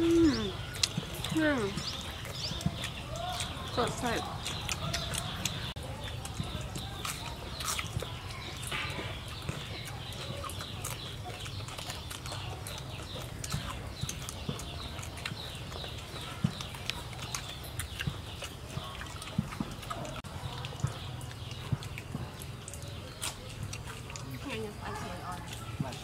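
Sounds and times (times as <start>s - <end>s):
people chewing and lip smacking: 0.0s - 26.0s.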